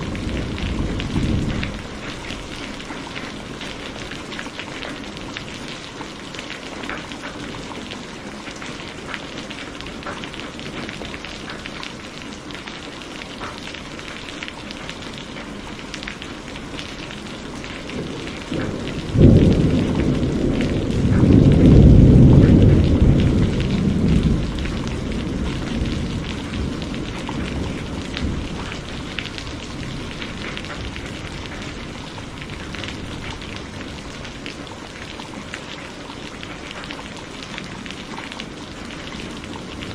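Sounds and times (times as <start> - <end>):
thunder rumbling: 0.0 - 11.8, 16.9 - 35.9, 36.5 - 39.9
steady rain: 0.0 - 39.9.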